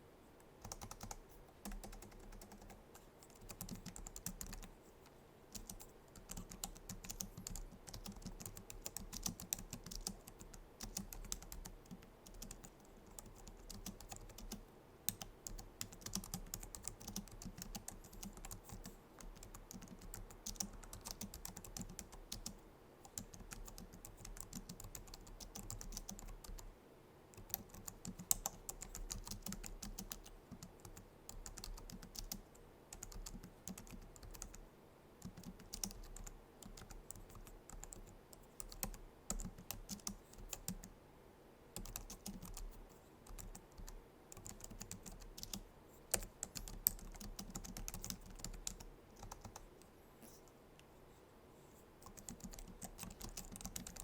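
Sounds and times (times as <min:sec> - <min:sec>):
keyboard typing: 0:00.6 - 0:04.7, 0:05.5 - 0:26.7, 0:27.4 - 0:34.6, 0:35.2 - 0:40.9, 0:41.8 - 0:50.4, 0:52.0 - 0:54.0.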